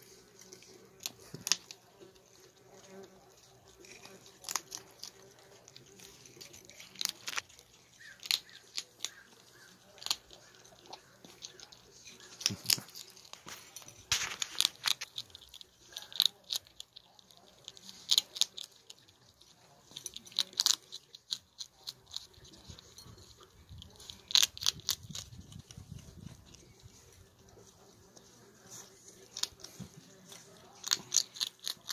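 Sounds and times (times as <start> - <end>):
skunk crunching dry kibble: 0.0 - 31.9.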